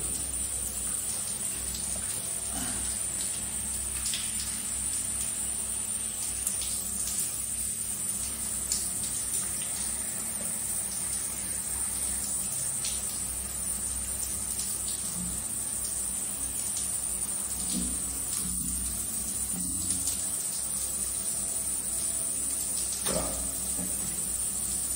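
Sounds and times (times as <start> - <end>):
shower water running: 0.0 - 24.9.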